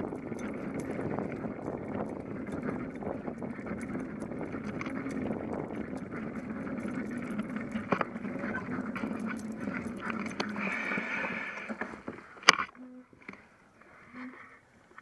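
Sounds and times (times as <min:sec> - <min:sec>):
bicycle rolling on concrete: 0:00.0 - 0:12.6
bike rattles and clicks: 0:00.0 - 0:13.5.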